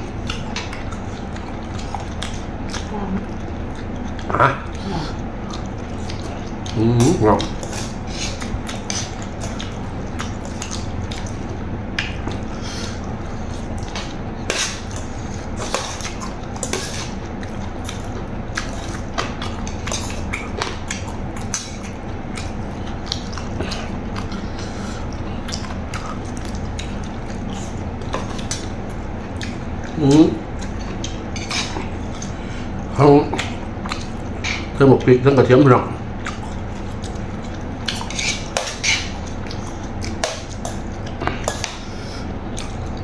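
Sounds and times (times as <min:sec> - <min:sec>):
chewing: 0:00.0 - 0:43.0
steady low hum: 0:00.0 - 0:43.0.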